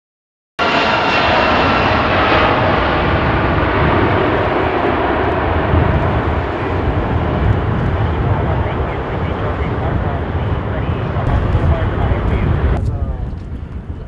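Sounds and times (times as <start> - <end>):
jet engine whine: 0.6 - 14.0
jet engines roaring: 0.6 - 14.0.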